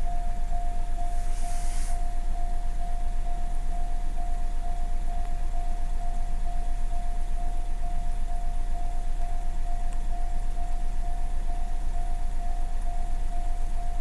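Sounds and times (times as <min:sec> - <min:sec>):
level crossing alarm ringing: 0:00.0 - 0:14.0.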